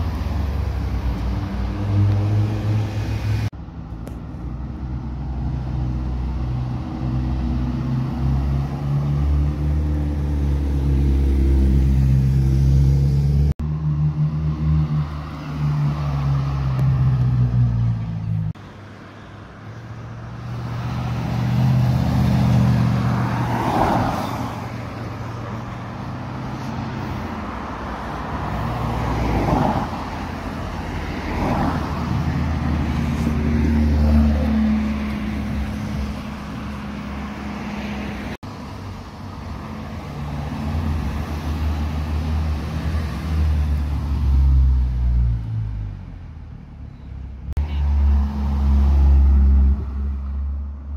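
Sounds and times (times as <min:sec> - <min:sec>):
cars driving past: 0:00.0 - 0:50.9.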